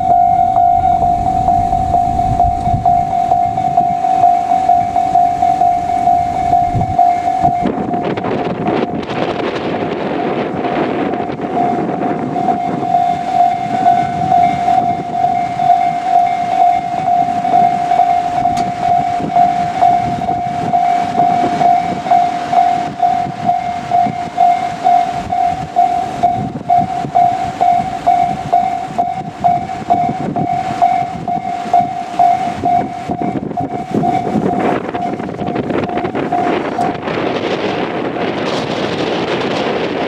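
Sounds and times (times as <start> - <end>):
level crossing bell ringing: 0.0 - 37.9
electric train rumbling past: 0.0 - 40.0.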